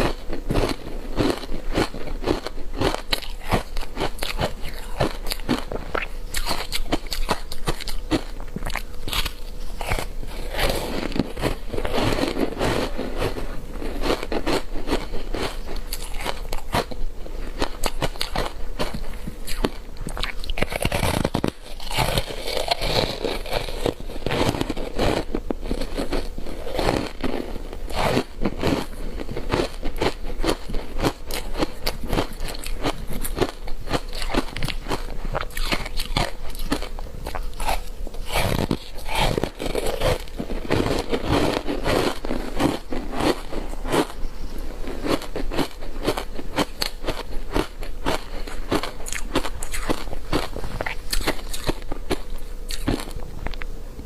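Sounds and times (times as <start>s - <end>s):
crunchy ice being chewed: 0.0s - 53.7s.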